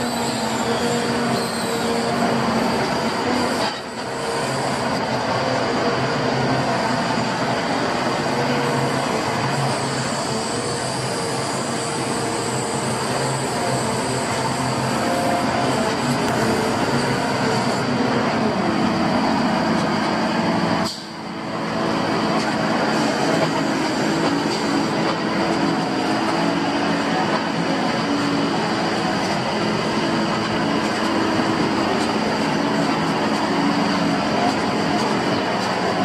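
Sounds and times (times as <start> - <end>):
truck engine and hydraulic drone: 0.0 - 36.0.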